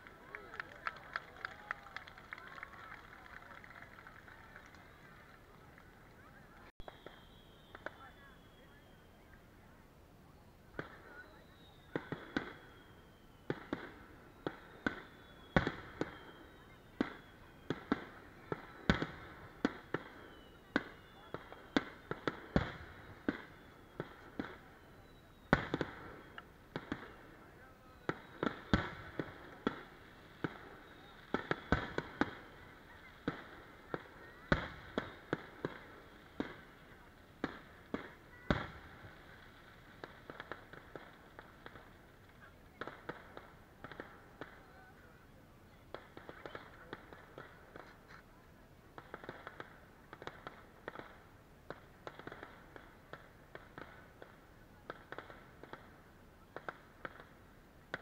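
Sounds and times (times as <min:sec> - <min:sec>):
fireworks bangs: 0:00.0 - 0:09.4, 0:10.6 - 0:58.0
fireworks crackling pops: 0:00.0 - 0:09.5, 0:10.3 - 0:58.0.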